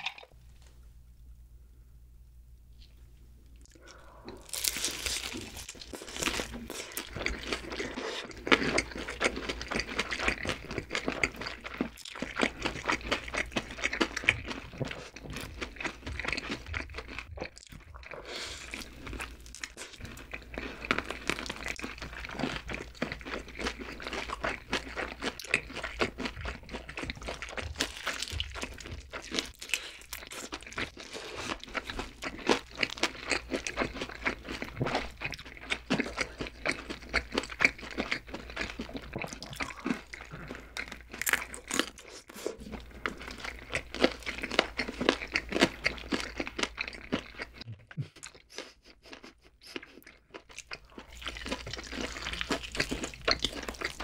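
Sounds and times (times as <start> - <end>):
people crunching fried chicken: 3.6 - 54.0.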